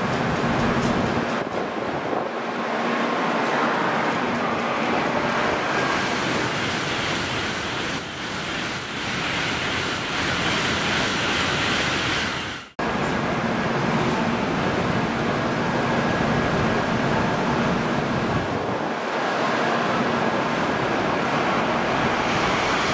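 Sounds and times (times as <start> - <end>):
high-speed train passing: 0.0 - 22.9.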